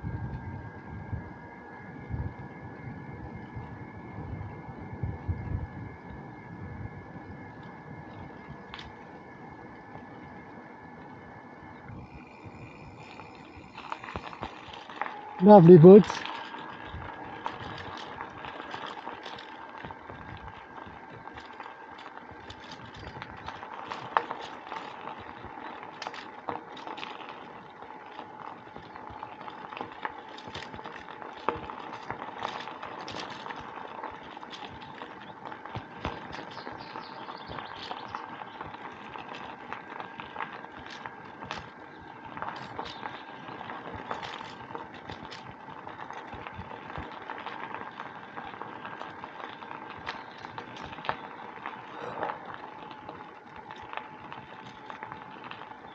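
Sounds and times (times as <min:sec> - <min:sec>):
bicycle rolling on a track: 0:00.0 - 0:55.9
faint steady hum: 0:00.0 - 0:55.9.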